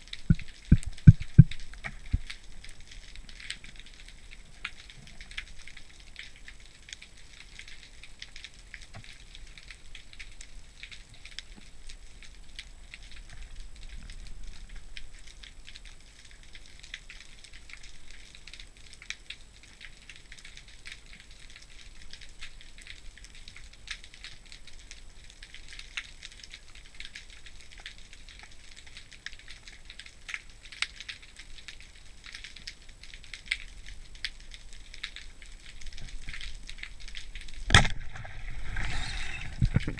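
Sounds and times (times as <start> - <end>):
underwater crackling clicks: 0.0 - 25.0, 25.6 - 39.9.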